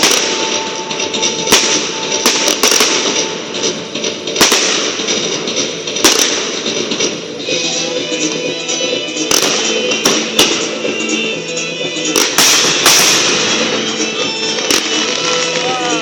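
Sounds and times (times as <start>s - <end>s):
fireworks bangs: 0.0s - 16.0s
fireworks crackling: 0.0s - 16.0s
music: 0.0s - 16.0s.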